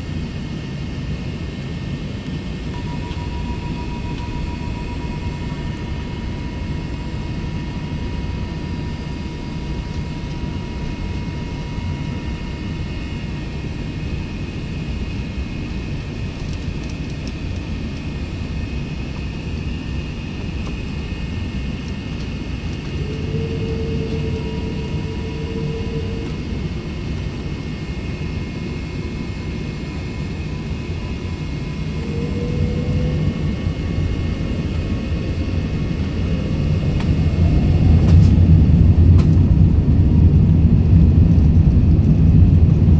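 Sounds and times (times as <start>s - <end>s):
jet engines rumbling: 0.0s - 42.9s
faint whining tones: 0.3s - 41.5s.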